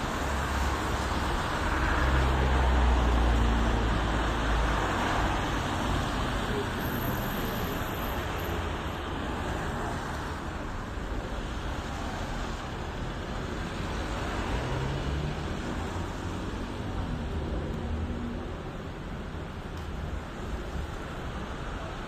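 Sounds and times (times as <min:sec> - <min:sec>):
low traffic rumble: 0:00.0 - 0:22.0.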